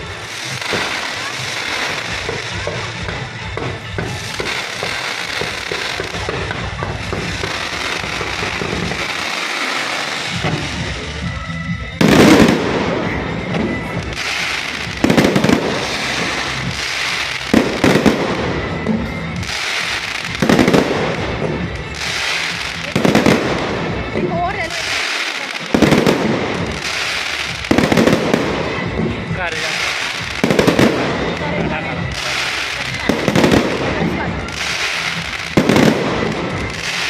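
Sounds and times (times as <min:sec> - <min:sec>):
loud firework bangs: 0:00.0 - 0:11.3, 0:11.9 - 0:37.0
fireworks crackling: 0:00.0 - 0:37.0.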